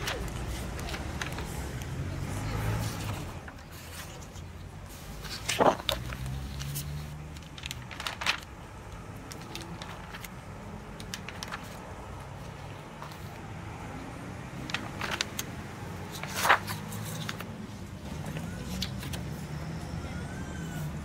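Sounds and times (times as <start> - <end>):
crisp paper ticks: 0.0 - 4.5, 5.2 - 13.4, 14.6 - 19.3
paper pages rustling: 0.0 - 19.6.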